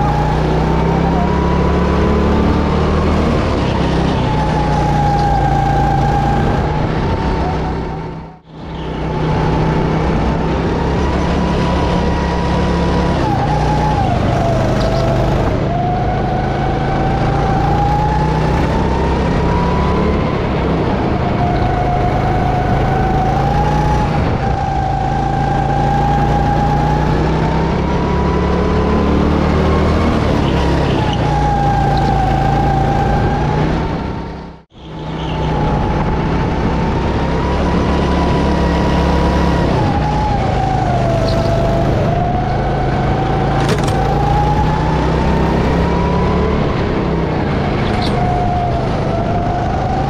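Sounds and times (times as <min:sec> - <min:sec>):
go-kart engine running hard: 0:00.0 - 0:34.2, 0:34.8 - 0:50.0.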